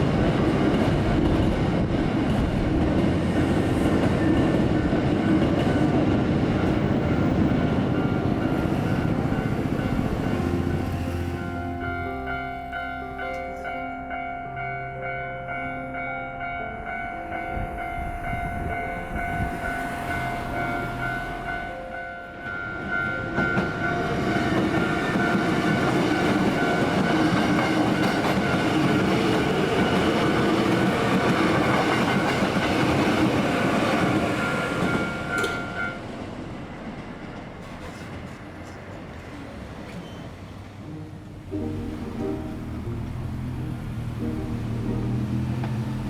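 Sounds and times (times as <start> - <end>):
electric train passing: 0.0 - 46.0.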